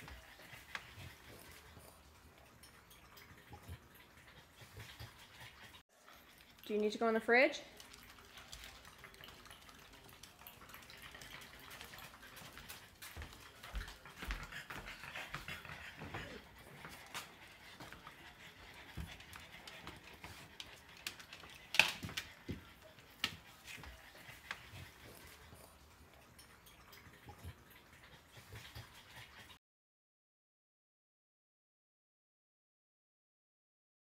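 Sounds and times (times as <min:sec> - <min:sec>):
dog panting: 0:00.0 - 0:07.0, 0:07.7 - 0:29.6.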